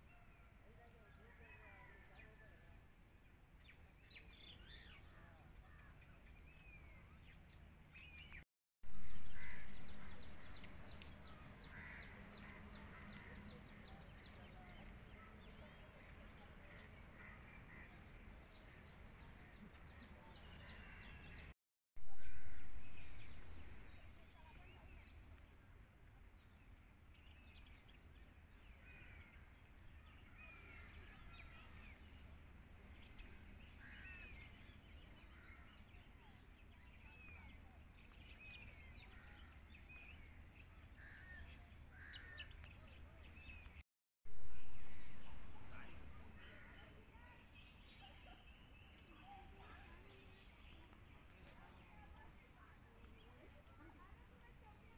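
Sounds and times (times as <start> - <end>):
outdoor background noise: 0.0 - 54.9.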